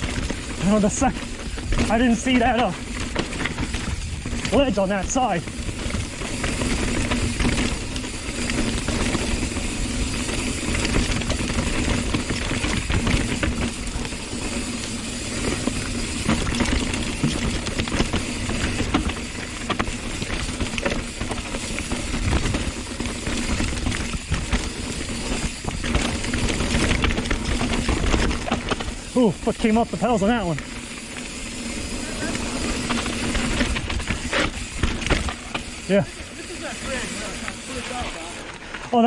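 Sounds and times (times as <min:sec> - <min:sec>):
bike frame and chain rattling: 0:00.0 - 0:39.0.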